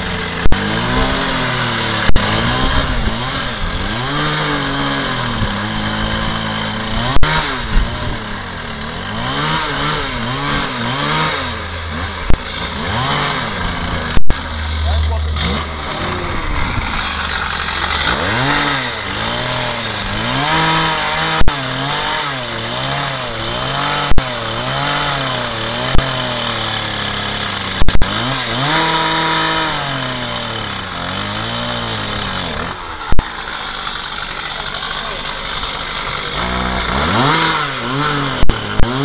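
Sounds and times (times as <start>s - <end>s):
cut-off saw engine revving: 0.0s - 39.0s
disc grinding through metal: 0.0s - 39.0s
sharp loud cracks: 0.0s - 39.0s.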